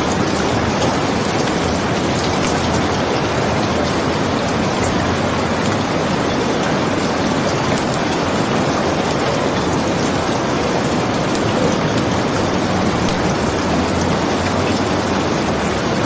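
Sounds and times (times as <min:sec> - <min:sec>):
steady dense rain: 0:00.0 - 0:16.0.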